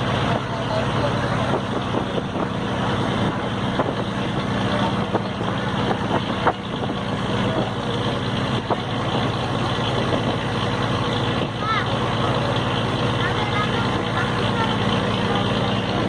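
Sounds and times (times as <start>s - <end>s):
ferry engine humming: 0.0s - 16.0s.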